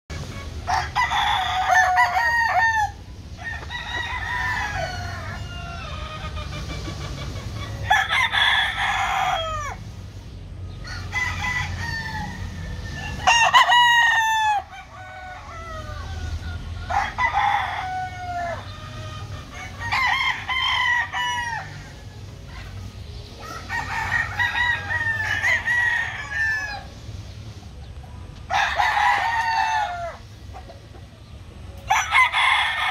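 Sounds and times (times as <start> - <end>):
roosters crowing: 0.1 - 27.4, 28.4 - 30.8, 31.7 - 32.9.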